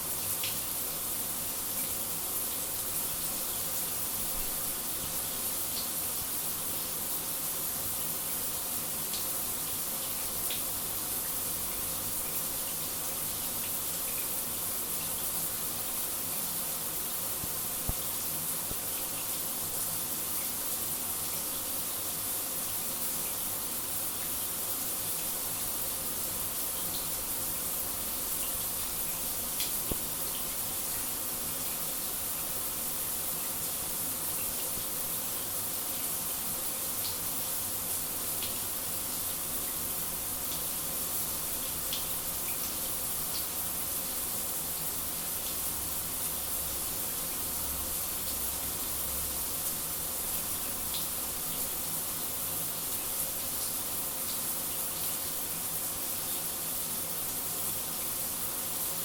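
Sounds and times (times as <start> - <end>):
shower spray hissing: 0.0 - 59.0.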